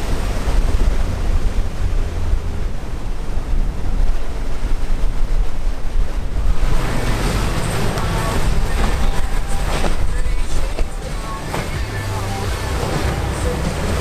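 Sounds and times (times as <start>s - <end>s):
waves breaking: 0.0s - 14.0s
wind buffeting microphone: 0.0s - 14.0s.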